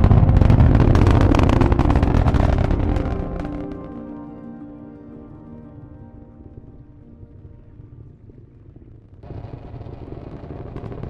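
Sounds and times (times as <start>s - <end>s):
background music sustained chords: 0.0s - 11.0s
low steady rumble: 0.0s - 11.0s.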